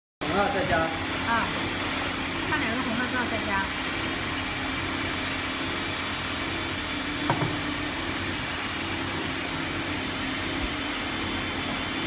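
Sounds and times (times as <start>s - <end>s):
furnace machine whirring: 0.2s - 12.0s.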